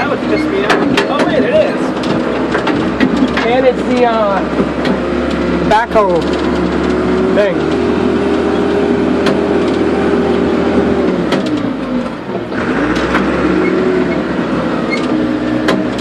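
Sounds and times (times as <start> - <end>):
backhoe engine whining: 0.0 - 16.0.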